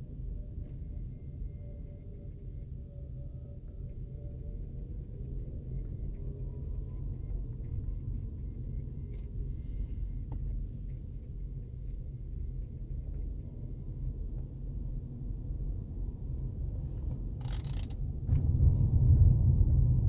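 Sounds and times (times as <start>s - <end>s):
faint pulsating noise: 0.0s - 20.0s
low road rumble: 0.0s - 20.0s.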